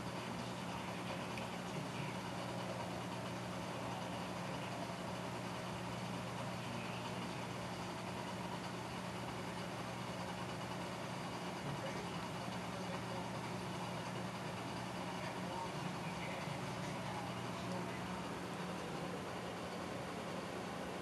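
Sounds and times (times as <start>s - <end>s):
aquarium pump hum and hiss: 0.0s - 21.0s.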